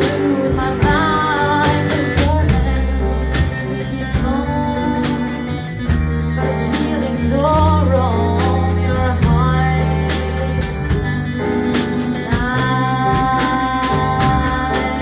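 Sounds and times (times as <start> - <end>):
drum and cymbal hits: 0.0 - 15.0
live band playing: 0.0 - 15.0.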